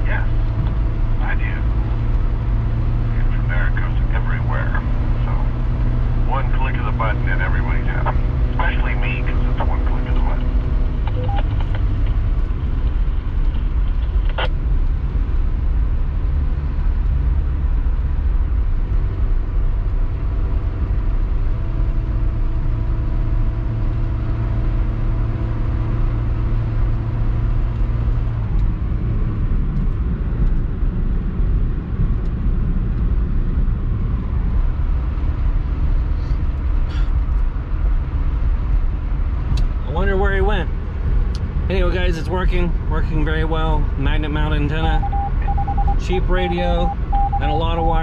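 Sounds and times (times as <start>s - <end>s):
engine and tyre rumble: 0.0s - 48.0s.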